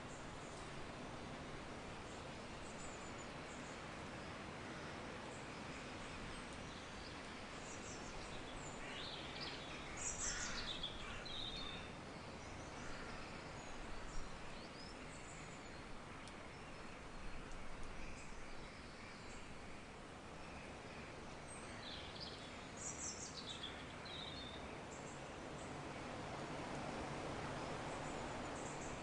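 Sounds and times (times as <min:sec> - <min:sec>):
steady soft hiss: 0:00.0 - 0:29.0.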